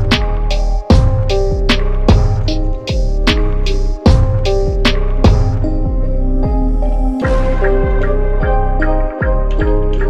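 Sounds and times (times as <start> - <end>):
background music with steady beat: 0.0 - 10.0
deep bass: 0.0 - 10.0.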